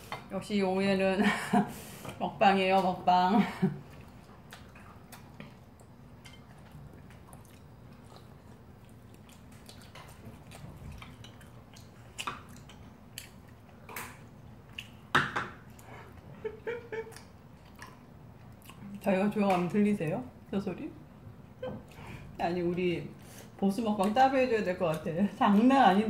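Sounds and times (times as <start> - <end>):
people chewing: 3.5 - 19.9, 21.2 - 26.0.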